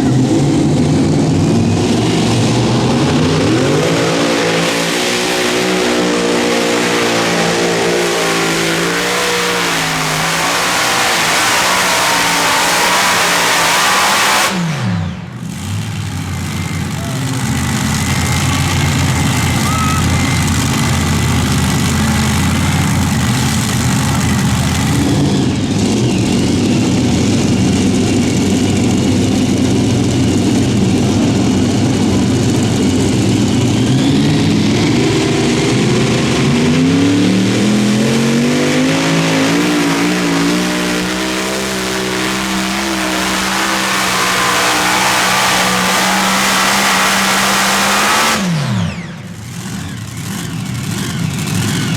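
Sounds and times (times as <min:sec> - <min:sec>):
tractor engine at full throttle: 0:00.0 - 0:51.9.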